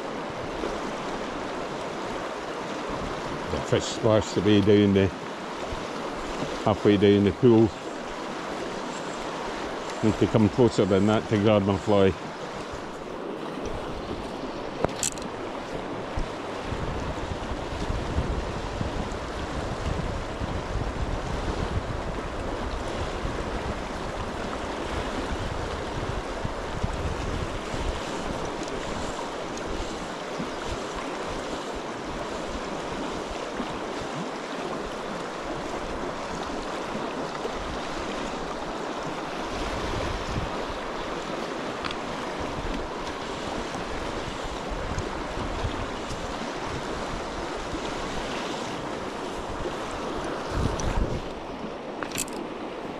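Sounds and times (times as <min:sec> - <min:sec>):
river water rushing: 0:00.0 - 0:52.9
wind buffeting microphone: 0:08.4 - 0:34.8, 0:35.5 - 0:51.6.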